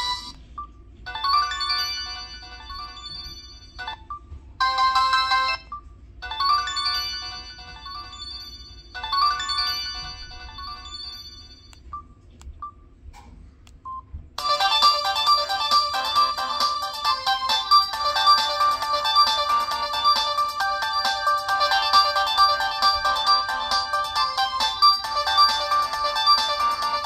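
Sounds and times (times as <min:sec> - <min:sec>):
melodic phone ringtone: 0:01.1 - 0:11.8, 0:14.4 - 0:27.0
busy phone ringtone: 0:01.1 - 0:12.1, 0:14.4 - 0:27.0.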